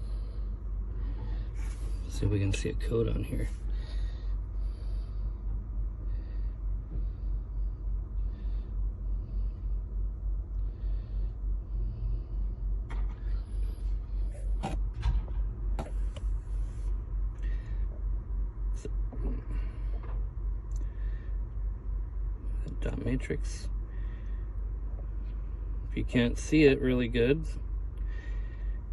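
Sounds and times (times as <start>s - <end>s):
low pulsing rumble: 0.0s - 28.9s.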